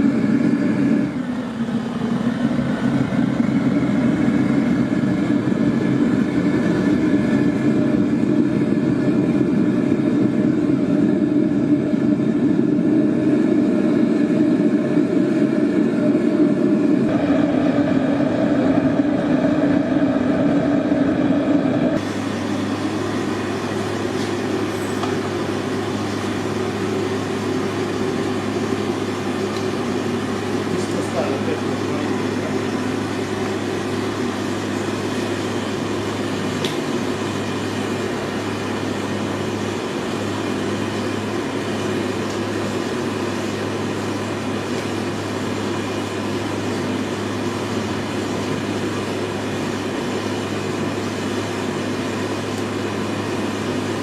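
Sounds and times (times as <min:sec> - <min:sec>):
deeper hum: 0:00.0 - 0:48.2
machinery humming with held tones: 0:00.0 - 0:54.0.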